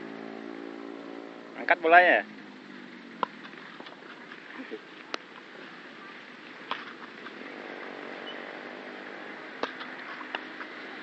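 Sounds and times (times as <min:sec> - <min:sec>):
distant motor vehicle engine: 0:00.0 - 0:11.0.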